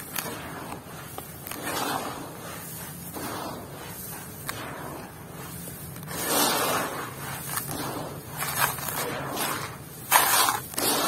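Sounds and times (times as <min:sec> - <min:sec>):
hands raking dry grit: 0:00.0 - 0:11.0.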